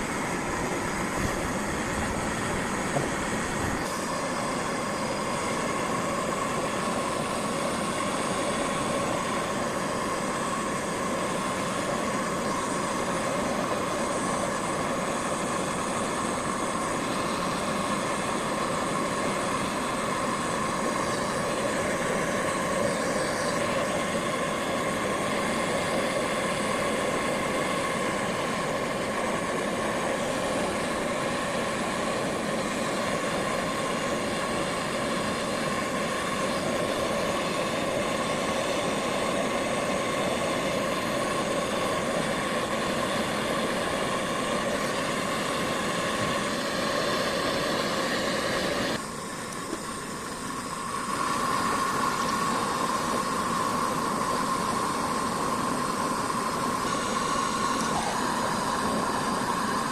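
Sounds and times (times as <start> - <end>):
machine humming with whine: 0.0 - 59.9.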